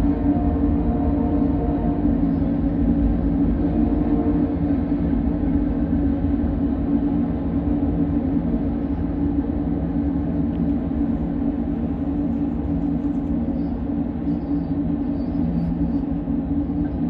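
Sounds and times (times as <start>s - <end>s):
freight train rumbling by: 0.0s - 17.0s.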